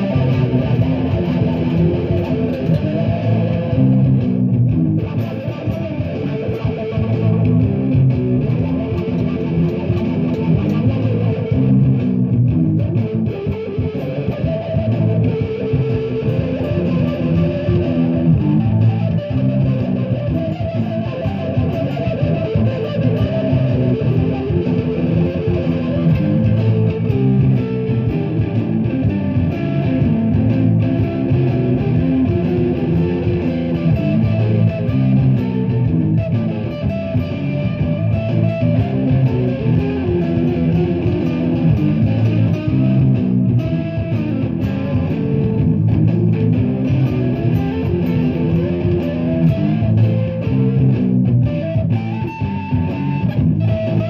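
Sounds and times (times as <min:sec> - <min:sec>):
electric guitar jam: 0:00.0 - 0:54.0.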